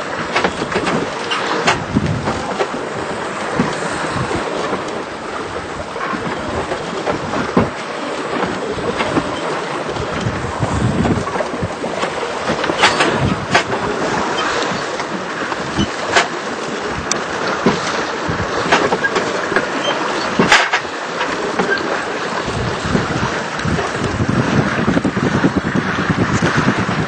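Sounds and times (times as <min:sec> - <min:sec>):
deep rumble of water: 0:00.0 - 0:27.0
wind and water rushing: 0:00.0 - 0:27.0.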